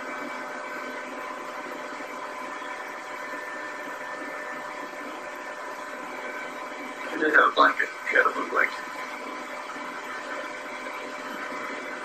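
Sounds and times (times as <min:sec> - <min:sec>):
faint high hum tones: 0:00.0 - 0:12.0.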